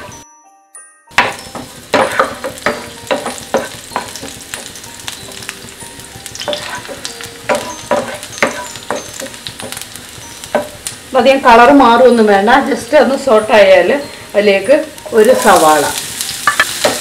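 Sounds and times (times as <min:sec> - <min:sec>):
garlic sizzling in oil: 0:01.1 - 0:17.0.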